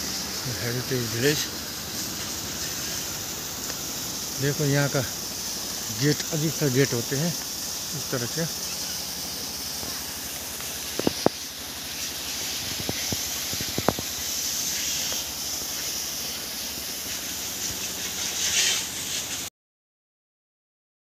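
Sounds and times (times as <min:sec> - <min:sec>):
insect chorus buzzing: 0:00.0 - 0:19.5.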